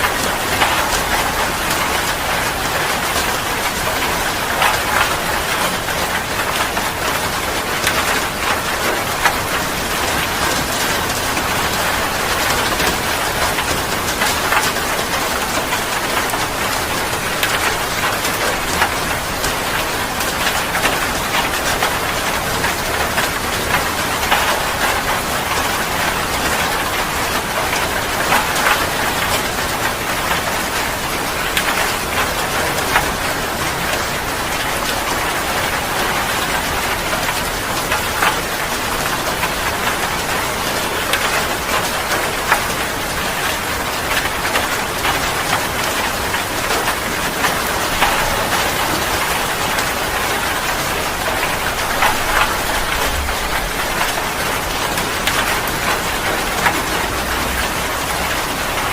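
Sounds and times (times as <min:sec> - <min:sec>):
heavy rain drumming: 0:00.0 - 0:58.9.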